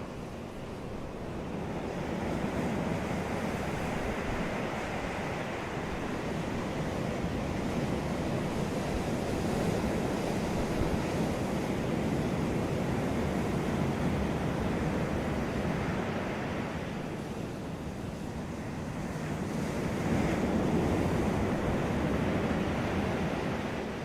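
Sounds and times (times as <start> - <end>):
ocean surf washing on beach: 0.0 - 24.0.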